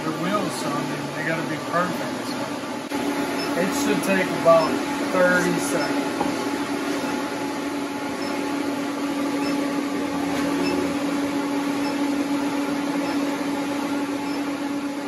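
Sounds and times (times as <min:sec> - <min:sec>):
induction heater humming: 0:00.0 - 0:15.0.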